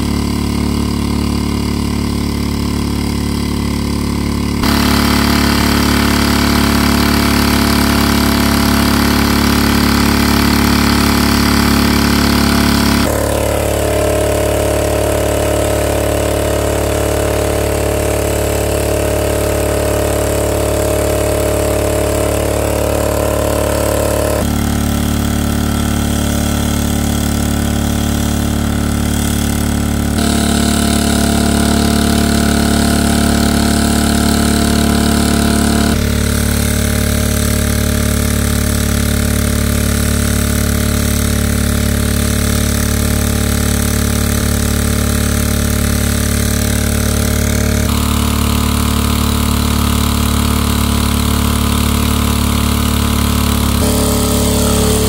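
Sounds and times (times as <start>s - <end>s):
water pump engine running: 0.0s - 55.0s.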